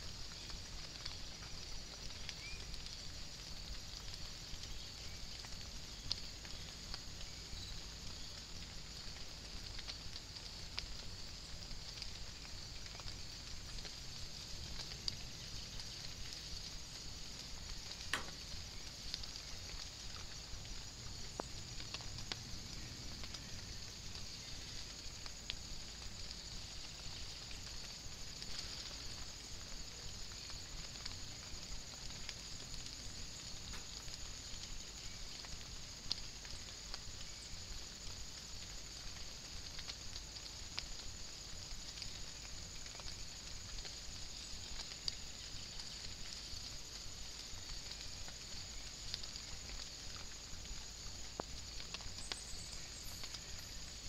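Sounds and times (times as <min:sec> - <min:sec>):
rain hissing: 0:00.0 - 0:54.0
raindrops ticking: 0:00.0 - 0:54.0.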